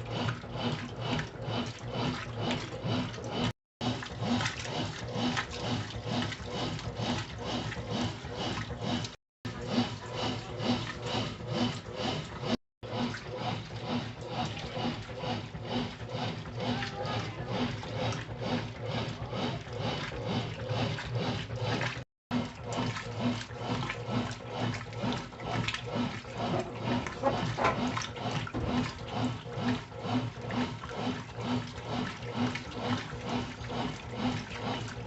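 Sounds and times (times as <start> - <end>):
washing machine churning water: 0.0 - 35.0
washing machine motor hum: 0.0 - 35.0.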